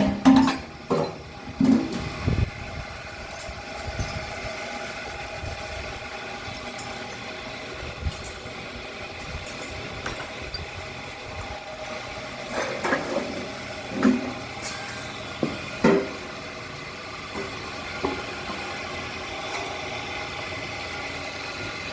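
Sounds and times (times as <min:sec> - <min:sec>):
engine idling: 0:00.0 - 0:21.9.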